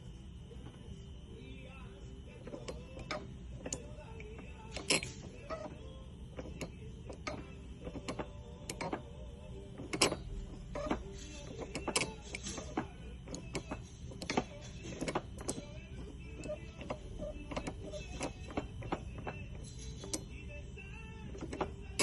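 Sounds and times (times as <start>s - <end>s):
driveshaft joint squeaking and clicking: 2.3s - 20.6s, 21.3s - 22.0s.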